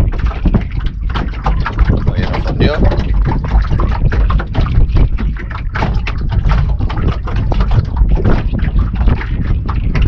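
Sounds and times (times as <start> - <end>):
heavy rumble: 0.0 - 10.0
water splashing against hull: 0.0 - 10.0
wind buffeting microphone: 0.0 - 10.0.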